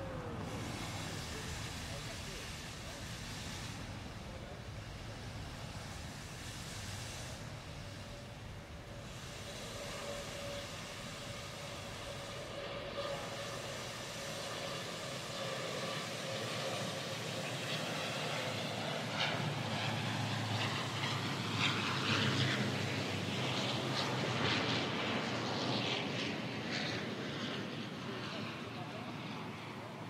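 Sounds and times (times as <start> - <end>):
military aircraft flying past: 0.0 - 30.0.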